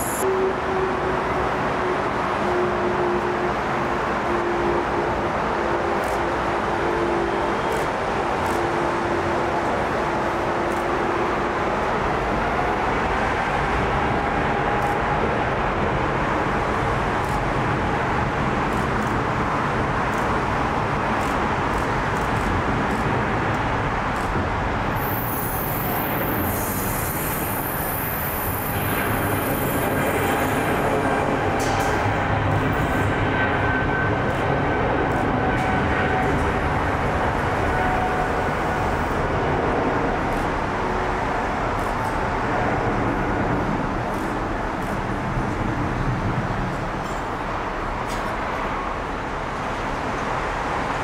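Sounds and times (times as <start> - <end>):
jet engines roaring on runway: 0.0 - 51.0.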